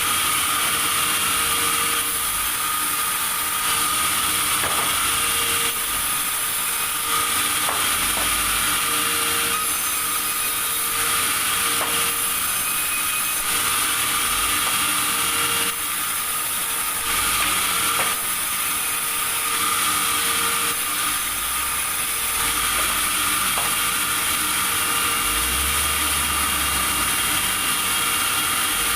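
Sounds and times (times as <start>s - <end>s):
sawmill machinery running: 0.0s - 28.9s.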